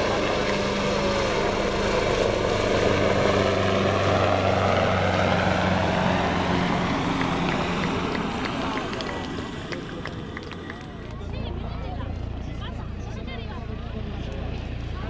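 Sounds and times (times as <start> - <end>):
helicopter rotor and engines: 0.0 - 15.0.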